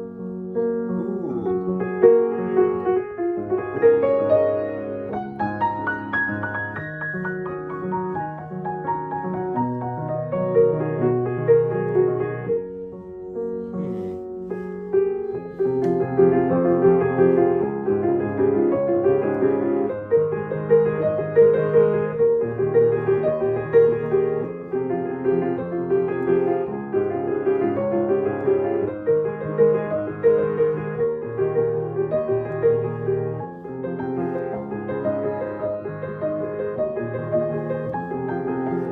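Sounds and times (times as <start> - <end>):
piano playing chords and melody: 0.0 - 38.9.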